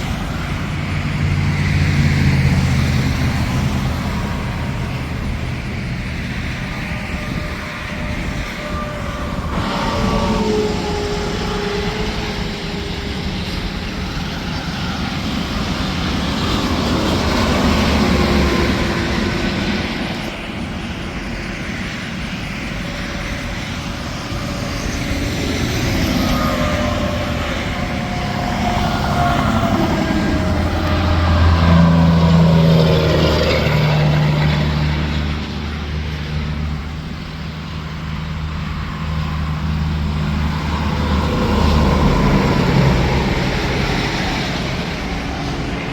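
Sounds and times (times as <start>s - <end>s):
highway vehicles passing: 0.0s - 45.9s
low steady engine drone: 0.0s - 45.9s.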